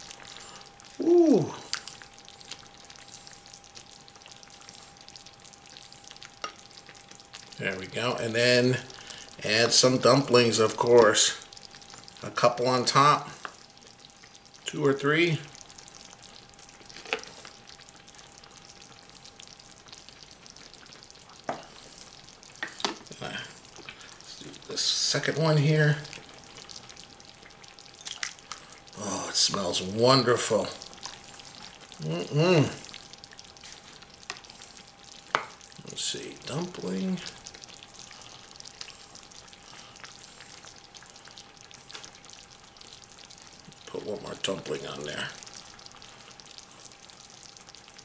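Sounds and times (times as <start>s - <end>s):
wet stirring hiss: 0.0s - 48.0s.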